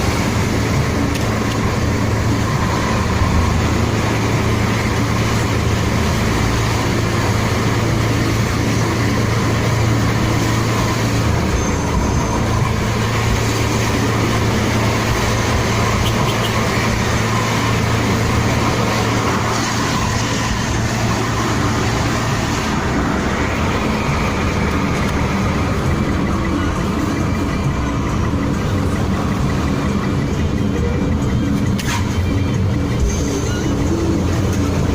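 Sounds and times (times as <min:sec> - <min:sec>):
highway road roar: 0:00.0 - 0:34.9
low engine drone: 0:00.0 - 0:34.9.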